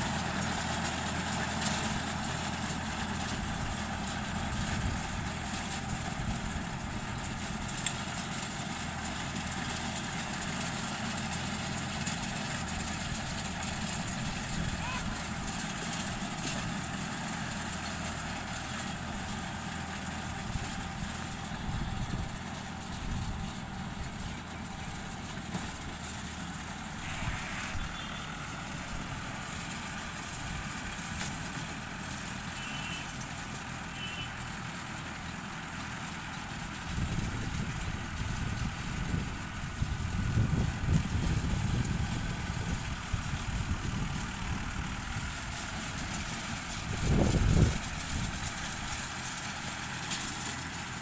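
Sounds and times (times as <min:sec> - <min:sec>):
baler machinery noise: 0:00.0 - 0:51.0
tractor engine running: 0:00.0 - 0:51.0.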